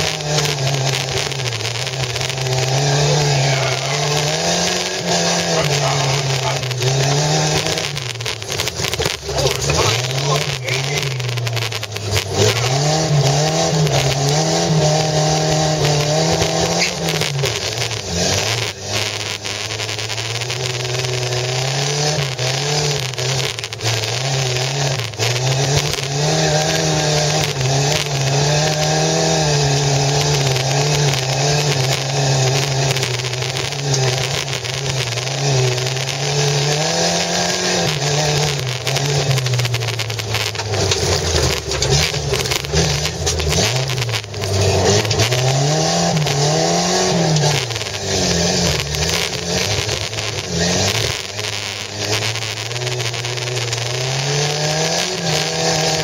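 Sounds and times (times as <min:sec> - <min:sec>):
car engine revving: 0:00.0 - 0:56.0
knocks and rattles of car: 0:03.7 - 0:21.2, 0:21.8 - 0:56.0.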